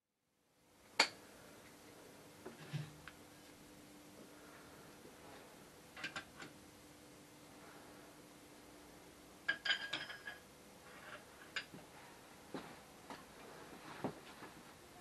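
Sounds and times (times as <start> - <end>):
faint steady hum: 0.2 - 15.0.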